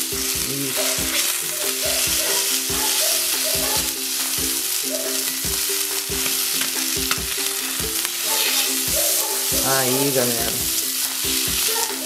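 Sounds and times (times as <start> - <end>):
faint background music with beat: 0.0 - 12.0
fish sizzling on a griddle: 0.0 - 12.0.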